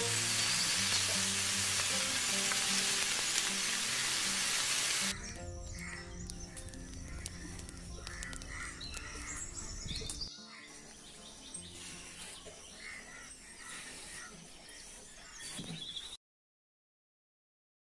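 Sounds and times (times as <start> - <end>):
soft background music: 0.0 - 15.3
birds chirping: 0.0 - 16.2.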